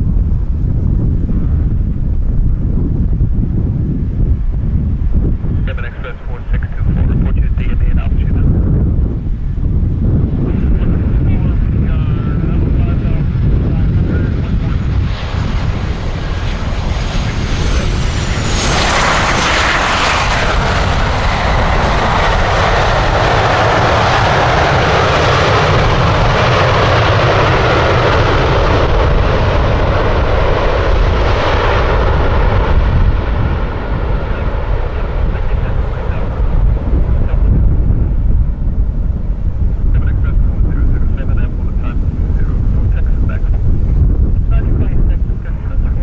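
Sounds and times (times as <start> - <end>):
high engine whine: 0.0 - 46.0
jet engines passing: 0.0 - 46.0.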